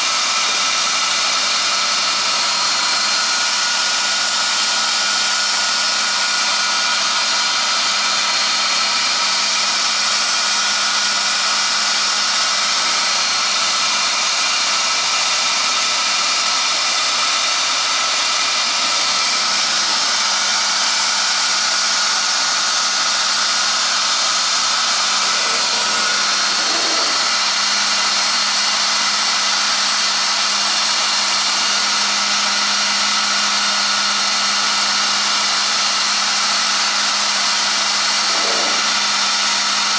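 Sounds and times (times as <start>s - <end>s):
cnc router spindle running: 0.0s - 39.9s.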